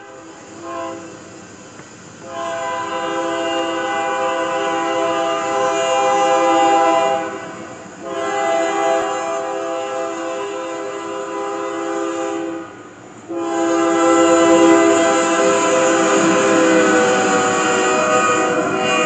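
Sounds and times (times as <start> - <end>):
train air horn blasts: 0.0 - 1.4, 2.2 - 19.0.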